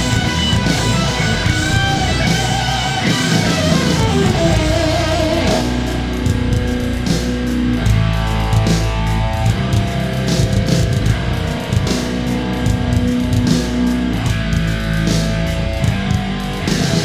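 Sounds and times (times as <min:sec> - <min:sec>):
guitar background music: 0:00.0 - 0:17.0
steady bass: 0:00.0 - 0:17.0.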